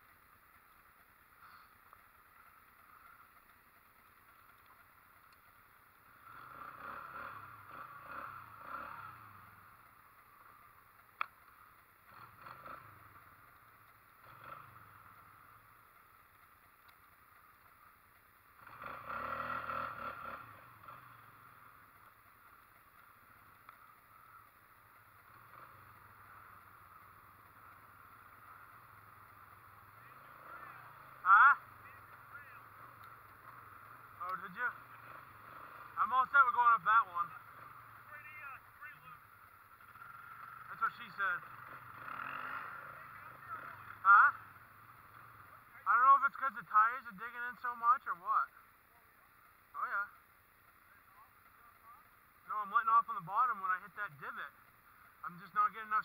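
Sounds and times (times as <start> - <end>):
distant atv engines revving: 0.0 - 56.0.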